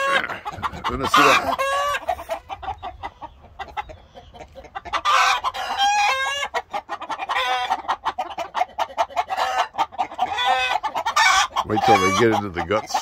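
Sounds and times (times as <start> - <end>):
hens clucking and calling: 0.0 - 13.0.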